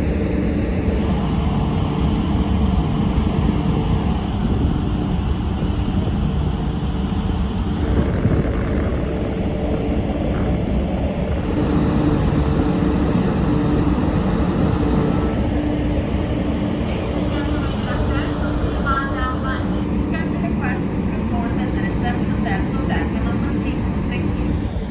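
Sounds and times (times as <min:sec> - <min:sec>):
ship engines humming: 0:00.0 - 0:24.9
wind buffeting microphone: 0:00.0 - 0:24.9.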